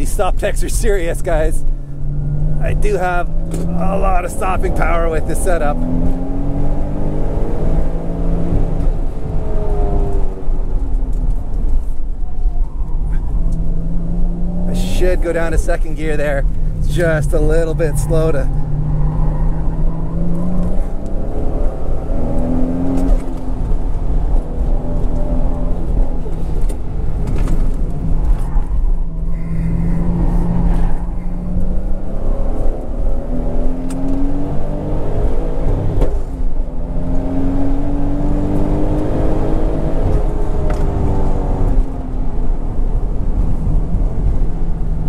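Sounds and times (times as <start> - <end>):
car engine at full throttle: 0.0 - 45.0.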